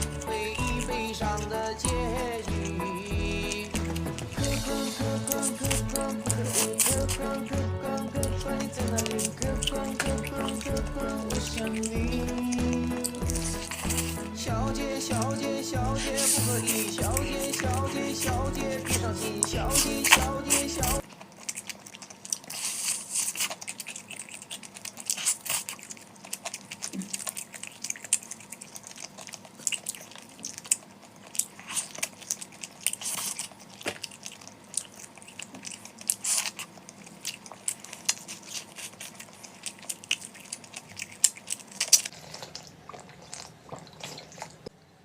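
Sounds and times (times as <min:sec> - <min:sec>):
person chewing and crunching: 0:00.0 - 0:44.8.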